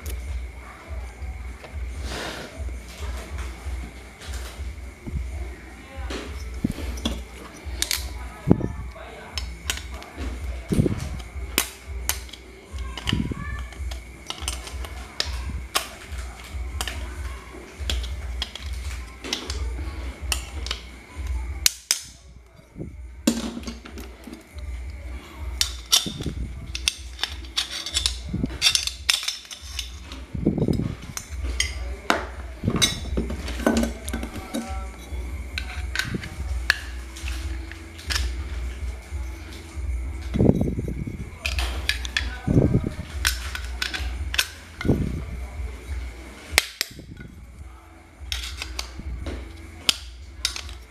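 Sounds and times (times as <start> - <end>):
tools clicking and scraping on metal: 6.1 - 50.9.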